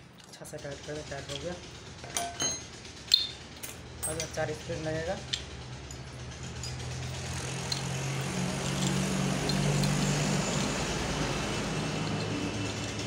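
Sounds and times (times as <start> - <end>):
small metal clinks: 0.1 - 11.0
engine humming: 0.7 - 13.0.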